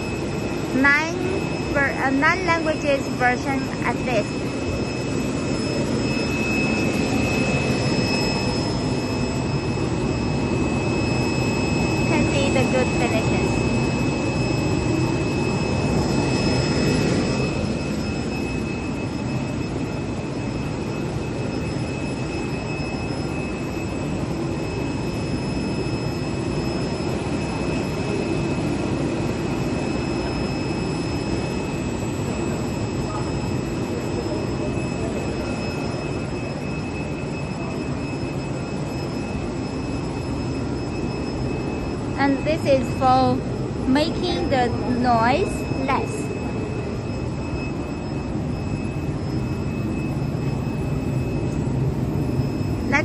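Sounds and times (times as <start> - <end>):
vacuum blower rushing with whine: 2.7 - 53.0.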